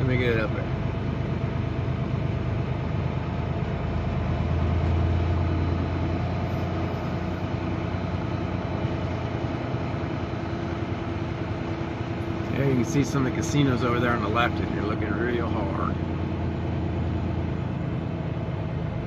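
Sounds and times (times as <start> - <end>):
diesel truck engine rumbling: 0.0 - 19.0.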